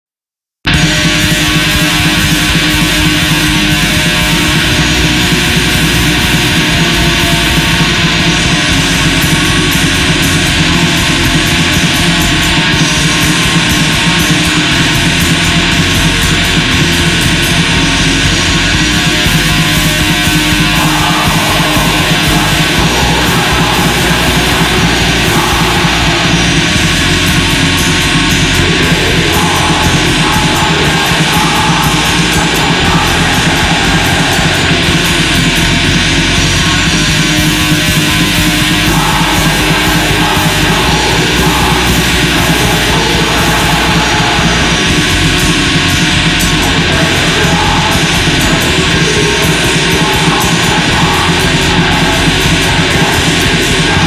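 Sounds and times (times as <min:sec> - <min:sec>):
black metal music: 0:00.7 - 0:54.0.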